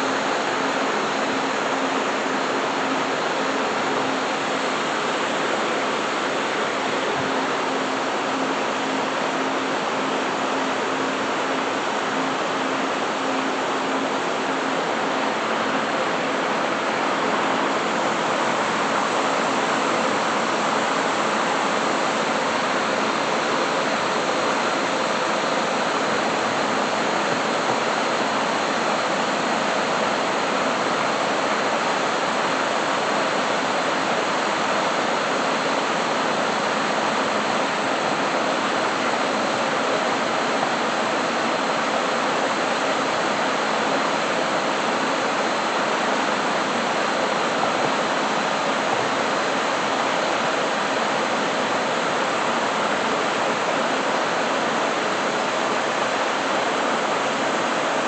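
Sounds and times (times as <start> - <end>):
loud steady hiss: 0.0 - 58.0.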